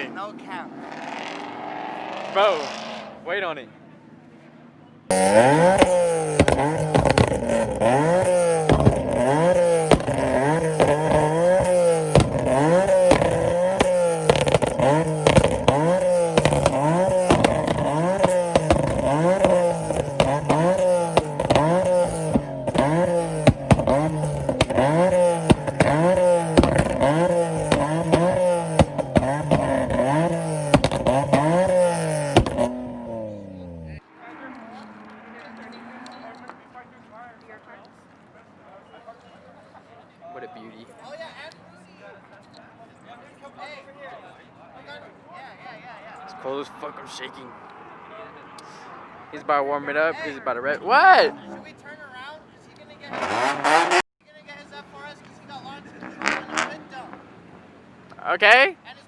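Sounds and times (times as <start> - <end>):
car engine revving: 0.0 - 37.4, 45.8 - 52.2, 52.8 - 54.1, 55.0 - 58.7.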